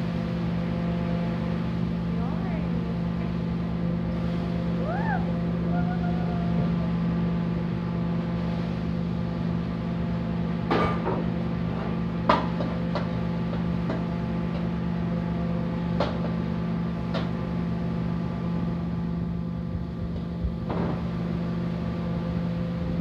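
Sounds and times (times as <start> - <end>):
gas burner humming: 0.0 - 23.0.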